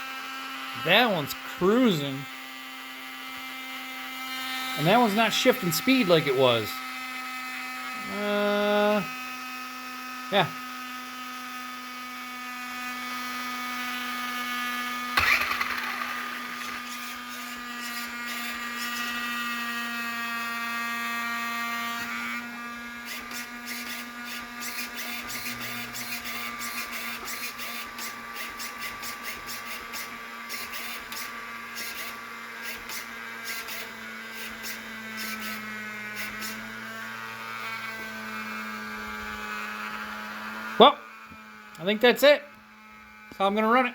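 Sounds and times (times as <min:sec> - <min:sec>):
small electric motors whirring: 0:00.0 - 0:43.9.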